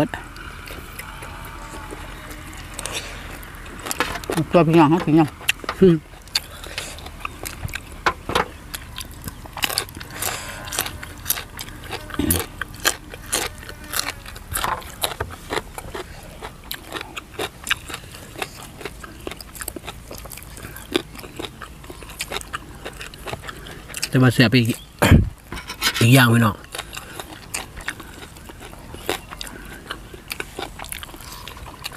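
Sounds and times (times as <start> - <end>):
people chewing crunchy vegetables: 0.0 - 31.9.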